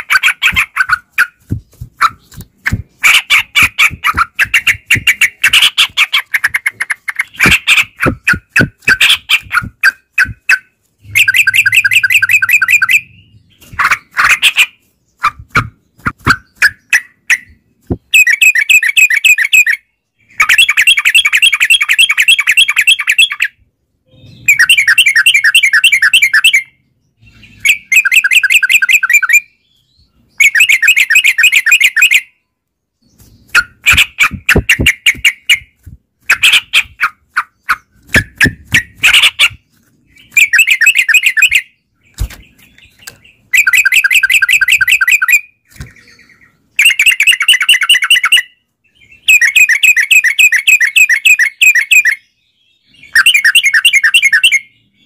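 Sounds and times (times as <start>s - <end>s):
bulbul song: 0.0s - 52.4s.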